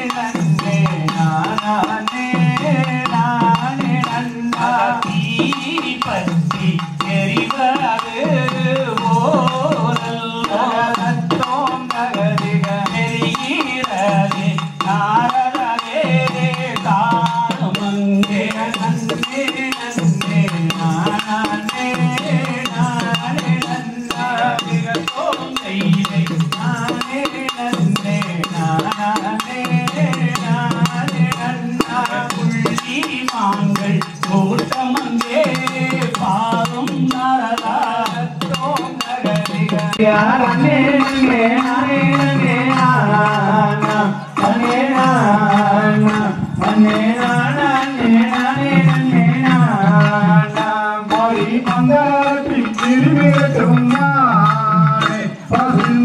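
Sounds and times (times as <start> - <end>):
folk song singing: 0.0 - 56.0
sharp percussive strikes: 0.0 - 56.0.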